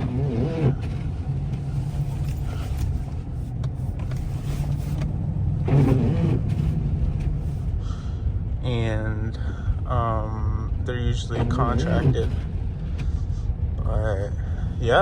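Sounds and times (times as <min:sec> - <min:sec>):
truck engine hum: 0:00.0 - 0:15.0
tyre and road noise: 0:00.0 - 0:15.0.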